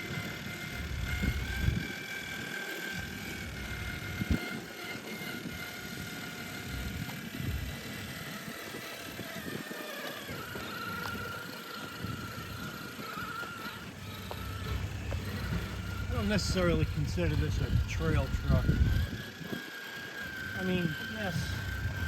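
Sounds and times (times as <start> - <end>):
electric motor and gears whining: 0.0 - 22.0.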